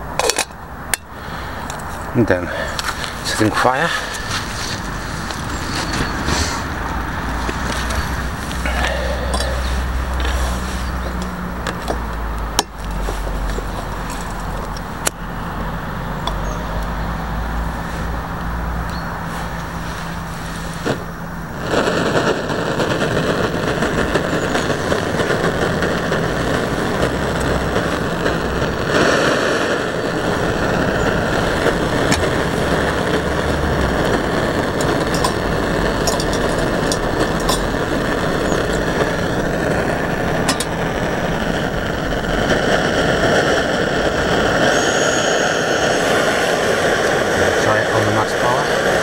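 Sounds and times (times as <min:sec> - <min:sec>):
gas burner hissing: 0:00.0 - 0:49.0.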